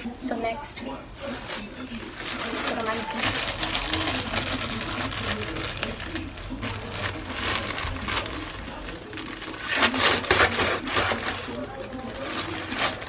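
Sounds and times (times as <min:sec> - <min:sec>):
plastic mailer crinkling: 0:01.1 - 0:13.0.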